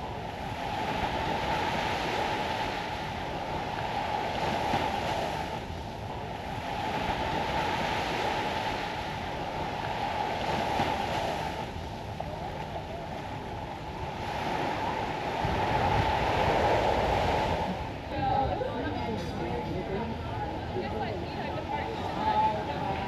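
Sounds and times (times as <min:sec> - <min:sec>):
ocean surf washing on beach: 0:00.0 - 0:23.0.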